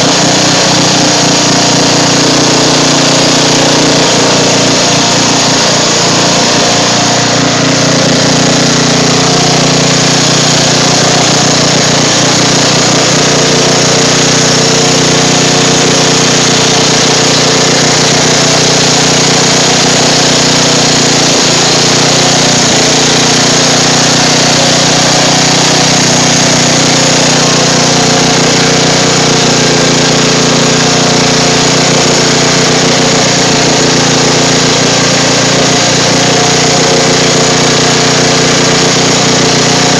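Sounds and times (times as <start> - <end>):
riding lawn mower engine running: 0.0 - 39.9.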